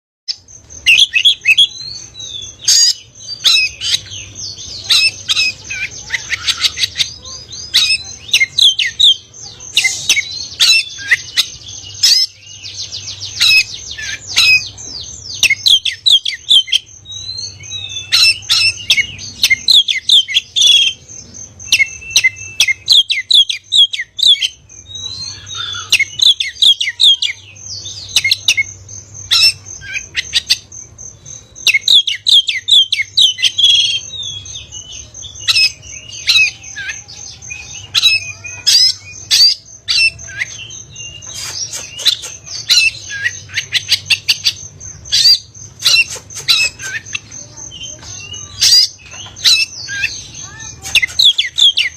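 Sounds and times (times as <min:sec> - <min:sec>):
bird singing: 0:00.3 - 0:51.9.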